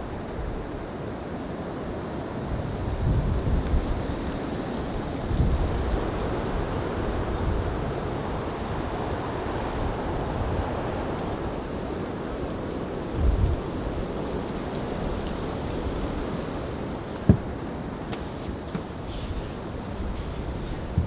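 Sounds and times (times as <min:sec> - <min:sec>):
storm wind gusting: 0:02.4 - 0:21.0
wind buffeting microphone: 0:02.4 - 0:21.0.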